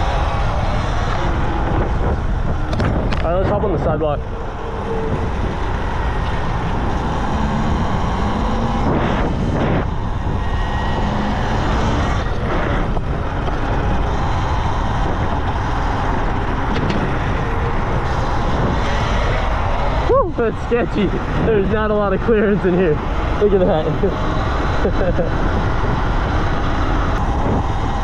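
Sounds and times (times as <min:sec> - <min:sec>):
tyre and drivetrain rumble: 0:00.0 - 0:28.0
wind rushing over microphone: 0:00.0 - 0:28.0.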